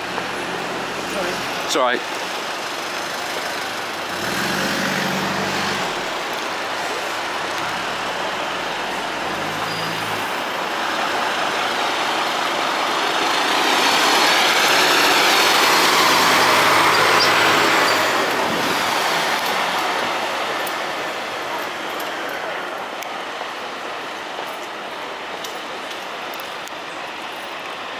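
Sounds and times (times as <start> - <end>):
fire engine diesel engine: 0.0 - 27.9.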